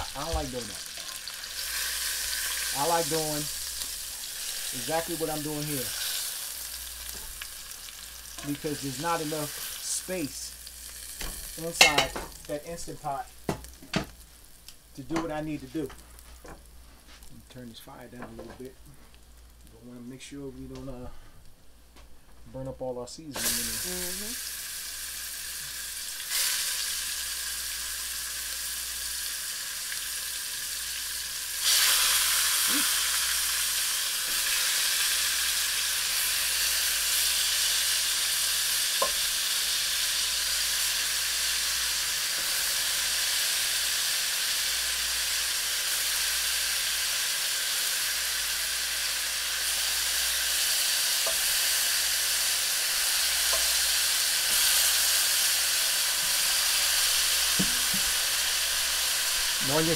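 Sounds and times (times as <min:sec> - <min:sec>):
meat sizzling in a frying pan: 0:00.0 - 0:15.2, 0:23.3 - 0:59.9.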